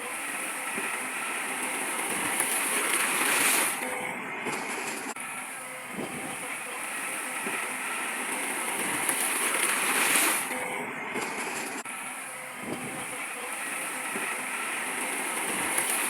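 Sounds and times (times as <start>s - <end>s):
heavy machinery working: 0.0s - 16.0s.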